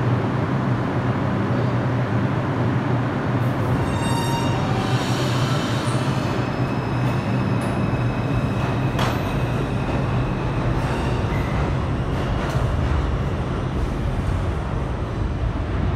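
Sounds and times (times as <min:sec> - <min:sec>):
high steady train whine: 0:00.0 - 0:15.9
train cars rumbling on rails: 0:00.0 - 0:15.9.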